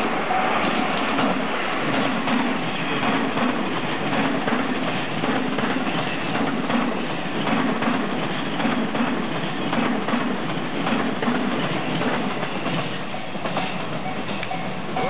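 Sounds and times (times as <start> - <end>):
train running on tracks: 0.0 - 15.0.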